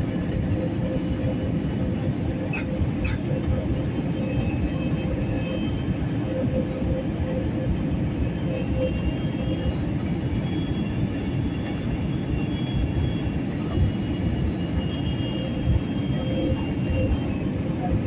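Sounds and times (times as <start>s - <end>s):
engine and airflow rumble: 0.0s - 18.0s.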